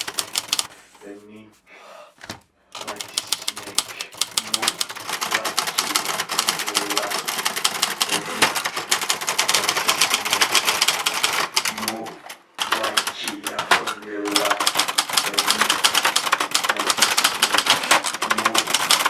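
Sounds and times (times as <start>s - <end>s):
typewriter keys clacking: 0.0s - 0.7s, 2.8s - 19.0s.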